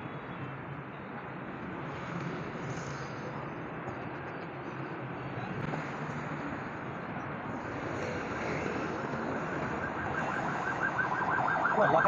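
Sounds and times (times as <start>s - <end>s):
cars passing: 0.0s - 12.0s
motorbikes passing: 1.9s - 12.0s.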